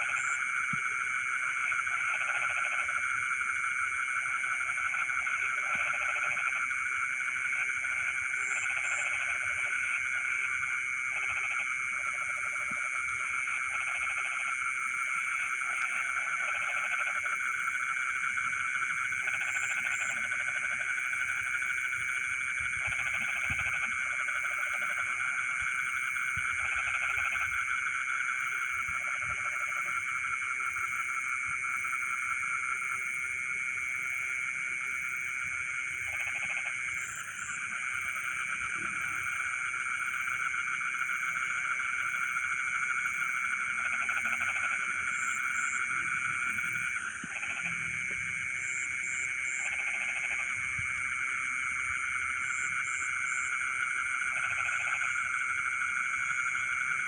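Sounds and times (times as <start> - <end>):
frogs chorus: 0.0 - 57.0
insects trilling: 0.0 - 57.0
low frog croaks: 0.0 - 57.0.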